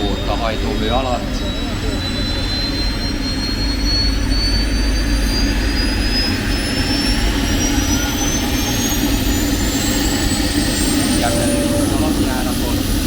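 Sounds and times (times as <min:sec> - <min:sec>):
gas turbine rumble and whine: 0:00.0 - 0:13.0.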